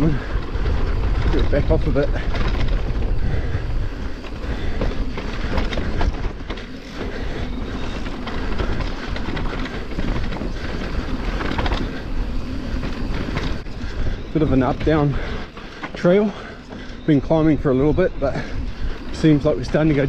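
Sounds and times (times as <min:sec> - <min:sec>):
bike rattling and knocking: 0:00.0 - 0:20.0
bike tyre noise on dirt: 0:00.0 - 0:20.0.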